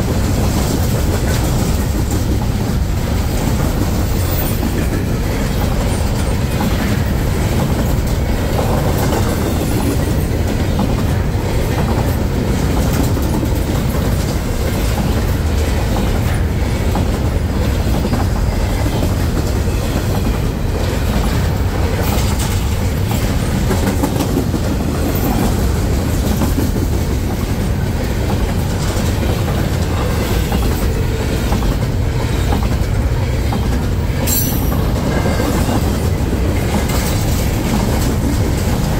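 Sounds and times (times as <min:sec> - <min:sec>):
freight train rumble: 0:00.0 - 0:38.9
train wheels clicking over joints: 0:00.0 - 0:38.9.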